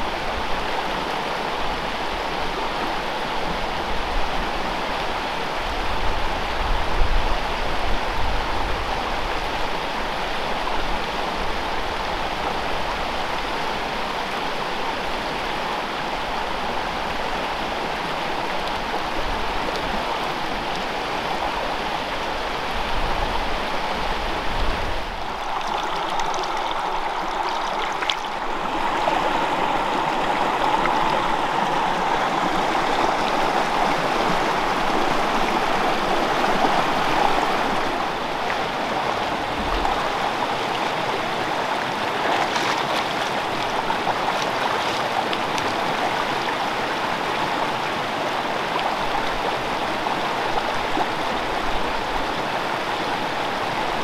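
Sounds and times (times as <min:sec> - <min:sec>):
mountain stream flowing: 0:00.0 - 0:54.0.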